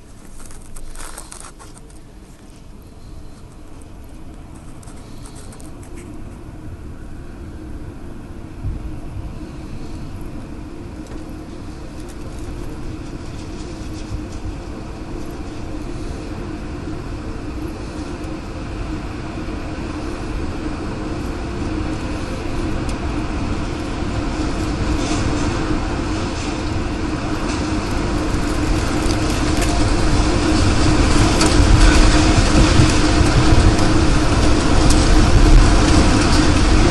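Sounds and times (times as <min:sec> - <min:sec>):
steady hum: 0:00.0 - 0:36.9
strong wind rumbling: 0:00.0 - 0:36.9.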